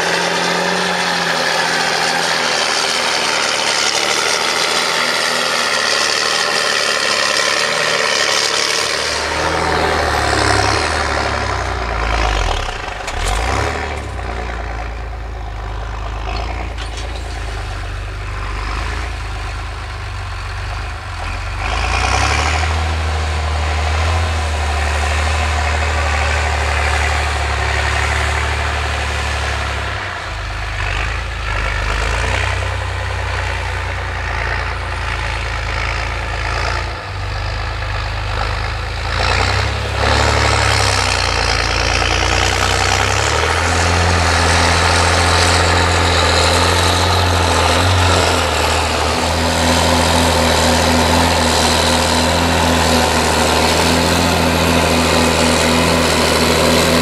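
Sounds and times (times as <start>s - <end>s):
tractor diesel engine labouring: 0.0s - 57.0s.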